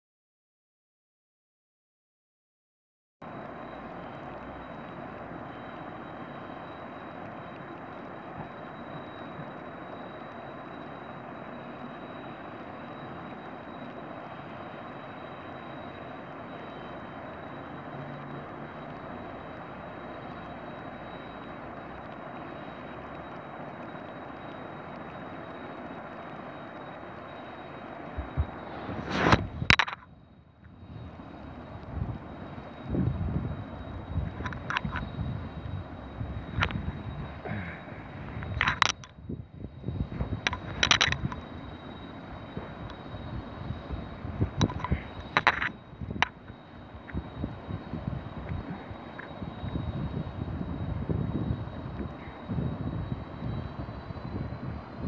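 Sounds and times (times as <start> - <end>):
thin high engine tone: 3.2 - 55.0
jet engines rushing: 3.3 - 55.0.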